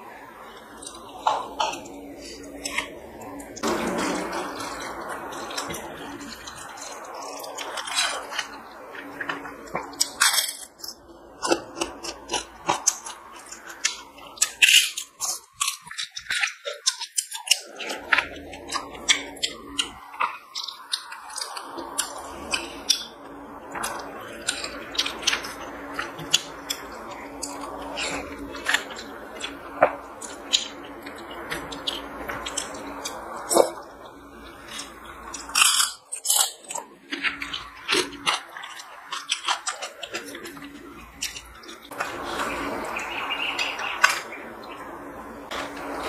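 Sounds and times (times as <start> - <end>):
chewing and wet mouth sounds: 0.3 - 46.0.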